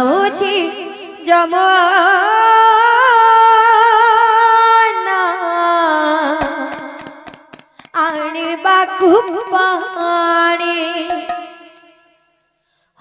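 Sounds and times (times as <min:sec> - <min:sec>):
woman singing devotional melody: 0:00.0 - 0:07.2, 0:07.8 - 0:12.0.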